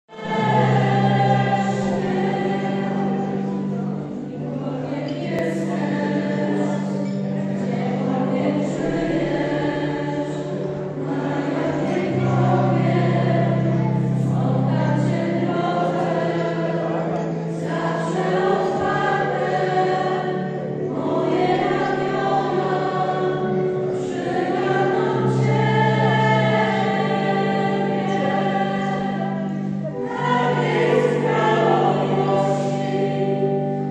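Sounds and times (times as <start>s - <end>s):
vocal ensemble singing: 0.1s - 33.9s
long low sustained notes: 0.2s - 33.9s.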